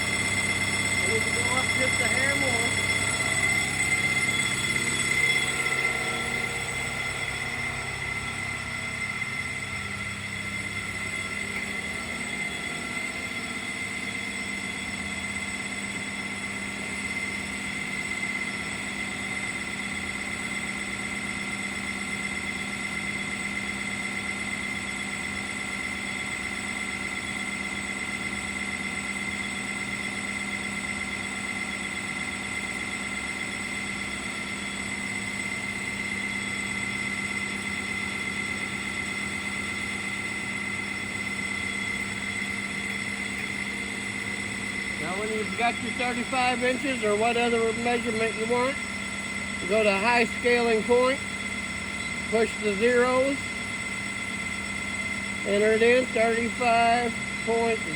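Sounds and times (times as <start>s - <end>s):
sawmill power unit humming: 0.0s - 57.9s.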